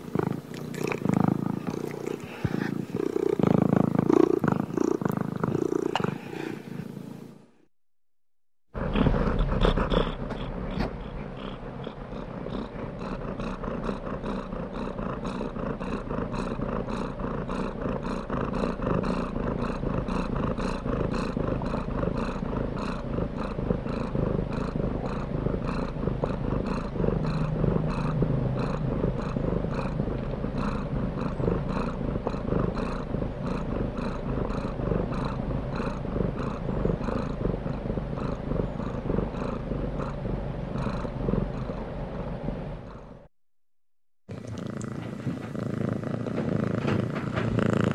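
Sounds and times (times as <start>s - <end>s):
cat purring: 0.0s - 7.7s, 8.8s - 43.3s, 44.3s - 47.9s.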